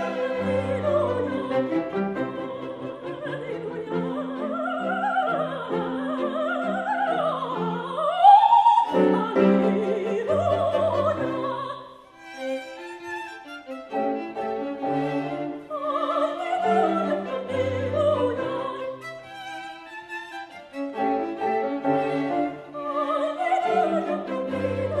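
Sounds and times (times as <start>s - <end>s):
soprano singing opera: 0.0s - 12.6s, 13.9s - 25.0s
string quartet playing: 0.0s - 25.0s.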